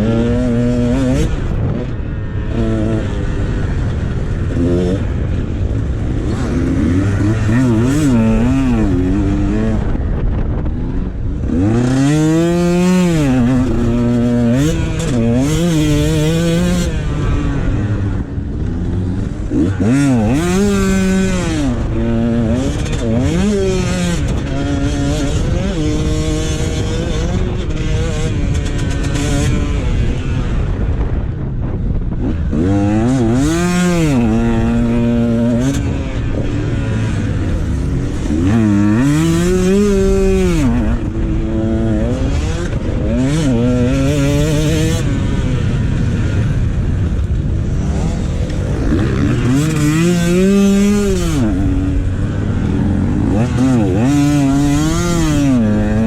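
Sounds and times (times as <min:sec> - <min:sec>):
dirt bike engine revving: 0:00.0 - 0:56.0
wind and ground rumble: 0:00.0 - 0:56.0.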